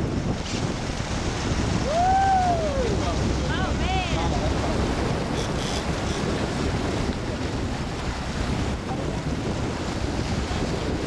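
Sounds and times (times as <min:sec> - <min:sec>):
motorboat wake rushing: 0:00.0 - 0:11.0
wind buffeting microphone: 0:00.0 - 0:11.0.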